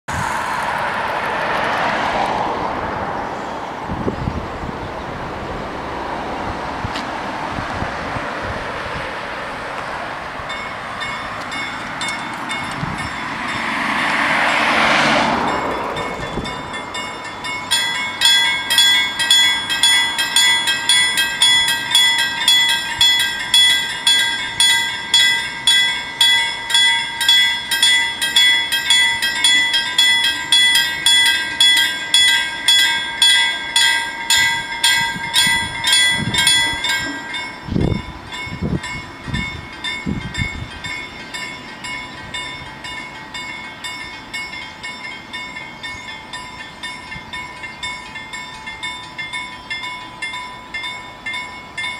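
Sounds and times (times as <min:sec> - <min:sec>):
road vehicle passing: 0:00.1 - 0:51.9
level crossing warning bells: 0:09.4 - 0:51.9.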